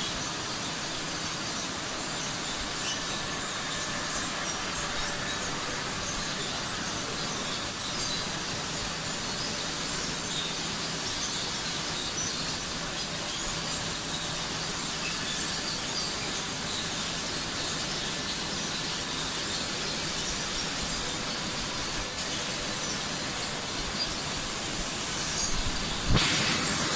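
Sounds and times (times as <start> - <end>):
production line machinery running: 0.0 - 26.9.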